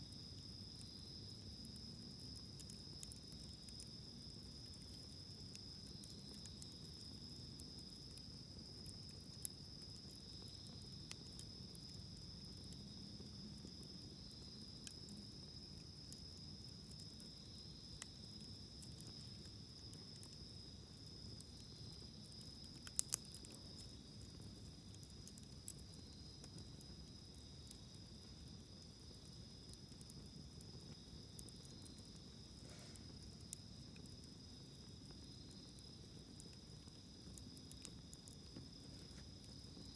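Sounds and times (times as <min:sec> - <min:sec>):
campfire crackling: 0:00.0 - 0:39.9
crickets chirring: 0:00.0 - 0:39.9.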